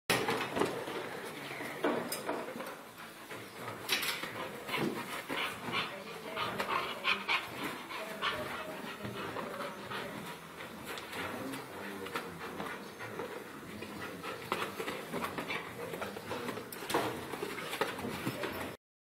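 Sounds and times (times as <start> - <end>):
dog panting and whimpering: 3.0 - 18.8.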